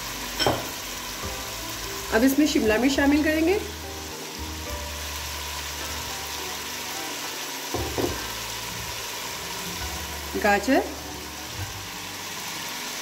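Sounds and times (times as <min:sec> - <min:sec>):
meat and vegetables sizzling in a pot: 0:00.0 - 0:13.0.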